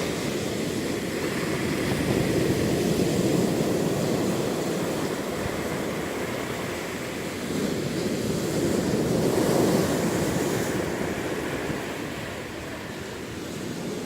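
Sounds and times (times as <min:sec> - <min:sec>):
waves breaking and rushing: 0:00.0 - 0:14.0.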